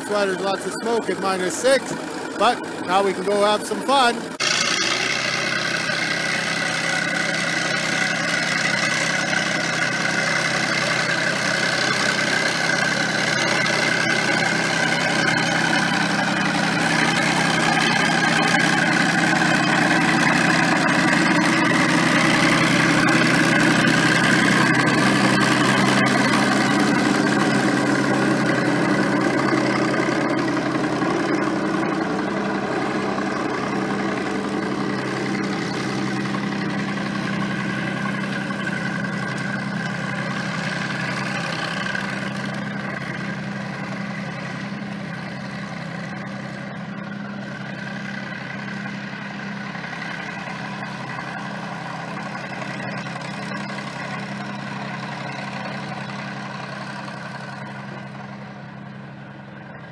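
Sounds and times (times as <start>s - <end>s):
diesel crawler tractor engine running: 0.0s - 59.9s.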